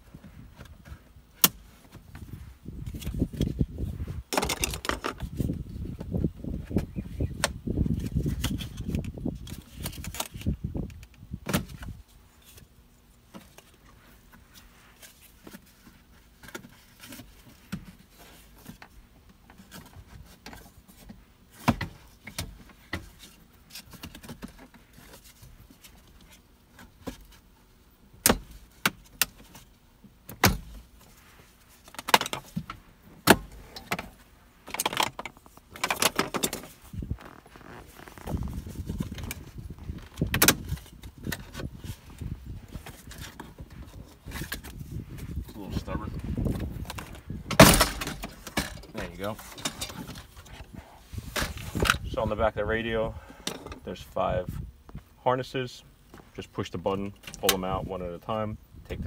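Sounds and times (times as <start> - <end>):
rustling handling noise: 0.0 - 59.0.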